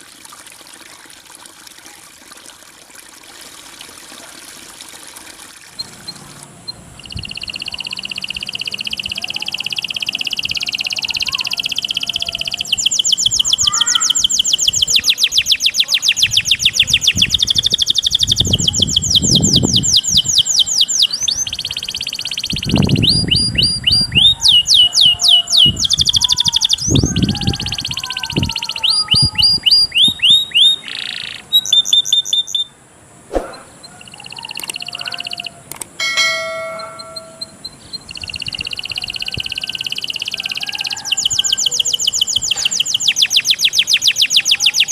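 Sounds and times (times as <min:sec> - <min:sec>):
songbirds trilling and chirping: 0:05.6 - 0:44.9.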